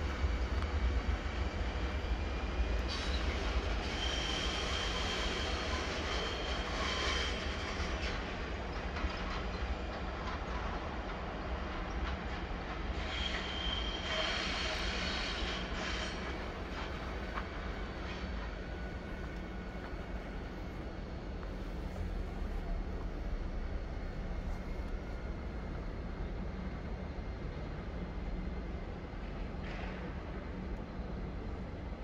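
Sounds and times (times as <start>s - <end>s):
electric locomotive rumbling: 0.0s - 32.0s.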